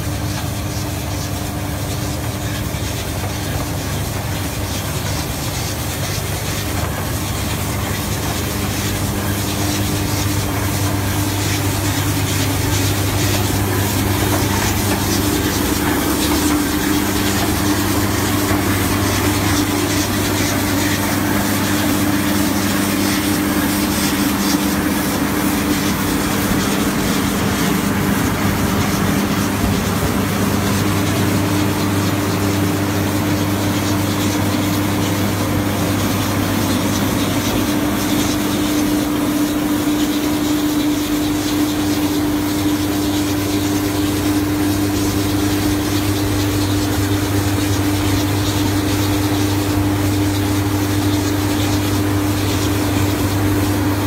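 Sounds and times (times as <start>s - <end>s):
machine engine hum: 0.0s - 54.0s.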